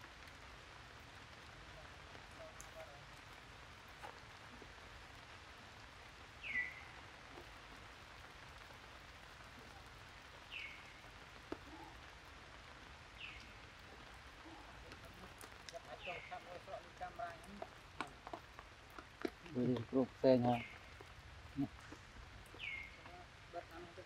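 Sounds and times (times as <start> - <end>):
light rain hiss: 0.0 - 24.0.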